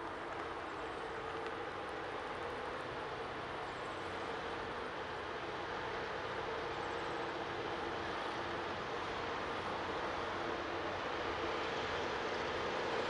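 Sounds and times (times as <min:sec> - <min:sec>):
distant locomotive engine drone: 0:00.0 - 0:13.0.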